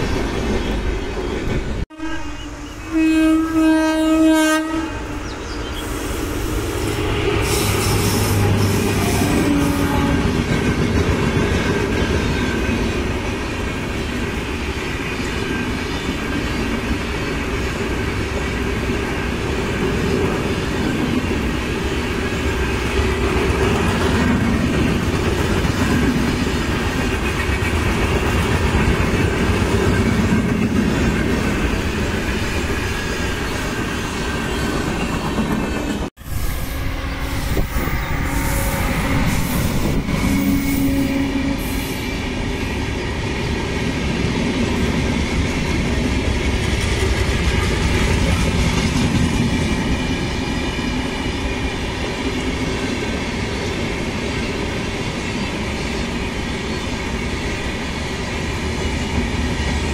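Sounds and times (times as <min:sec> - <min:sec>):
train wheels rumbling on rails: 0:00.0 - 0:02.0, 0:05.2 - 0:59.9.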